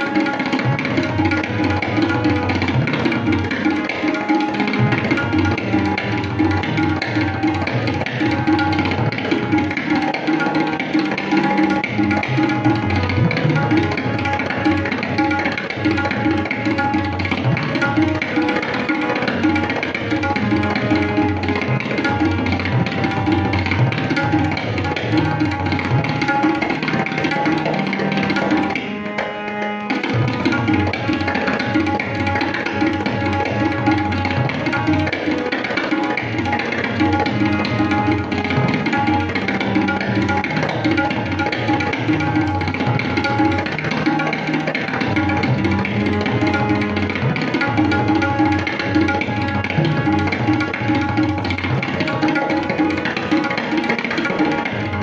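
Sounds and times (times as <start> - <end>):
harmonium melody: 0.0 - 55.0
tabla drumming: 0.0 - 55.0.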